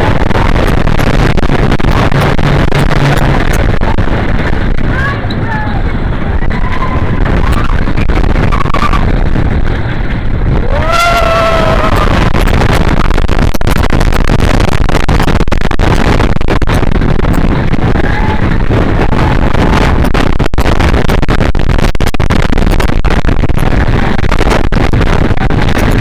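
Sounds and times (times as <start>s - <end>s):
roller coaster clattering on track: 0.0s - 26.0s
wind rushing over microphone: 0.0s - 26.0s.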